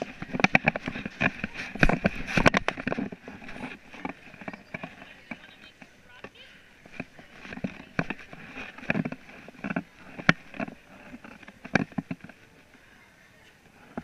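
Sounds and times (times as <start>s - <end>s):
camera knocks and rubbing: 0.0s - 12.4s.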